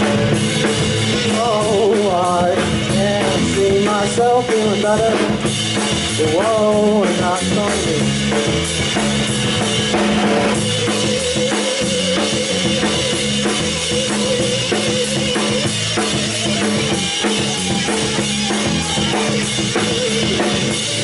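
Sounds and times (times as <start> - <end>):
drum kit beat: 0.0 - 21.0
rock band playing: 0.0 - 21.0.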